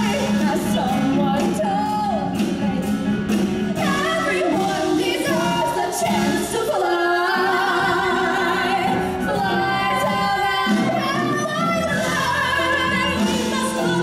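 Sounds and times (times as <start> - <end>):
women singing a duet: 0.0 - 3.0, 3.7 - 14.0
backing music: 0.0 - 14.0.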